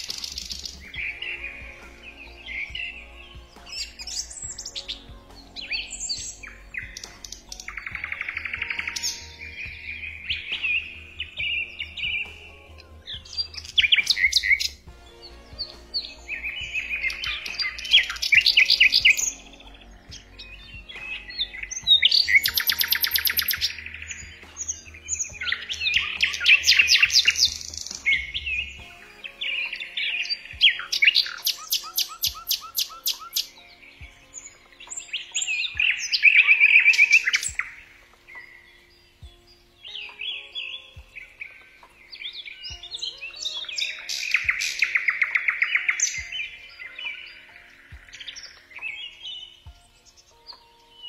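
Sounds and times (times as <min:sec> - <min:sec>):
songbirds chirping and trilling: 0:00.0 - 0:51.0.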